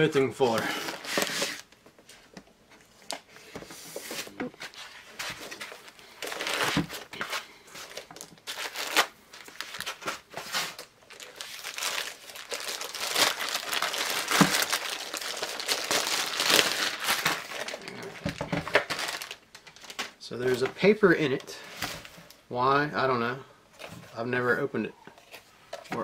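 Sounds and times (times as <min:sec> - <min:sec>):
packaging crinkling and rustling: 0:00.4 - 0:22.2.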